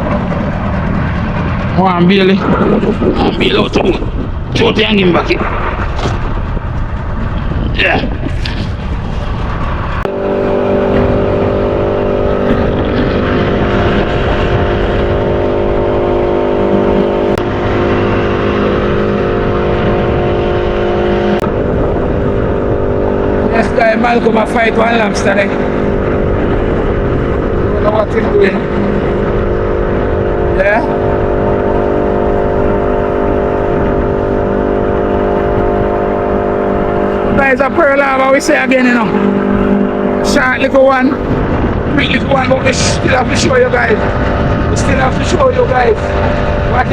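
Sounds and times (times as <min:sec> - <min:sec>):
motor running steadily: 0:00.0 - 0:46.9
wind noise: 0:00.0 - 0:46.9.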